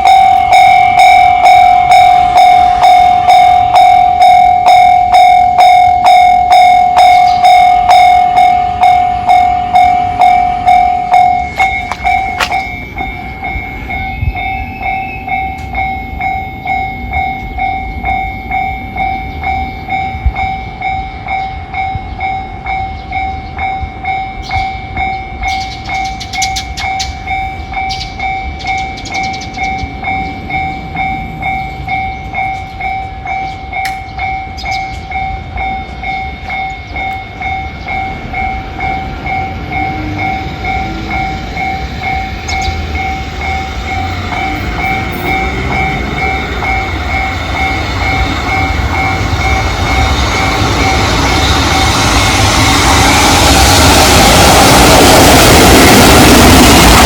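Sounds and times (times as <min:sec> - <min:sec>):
level-crossing alarm clanging: 0:00.0 - 0:57.0
low rumble of passing train: 0:00.0 - 0:57.0.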